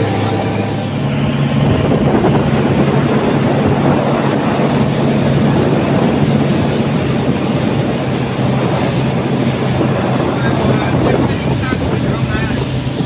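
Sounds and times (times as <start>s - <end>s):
speedboat engine drone: 0.0s - 13.0s
water and wind rushing: 0.0s - 13.0s.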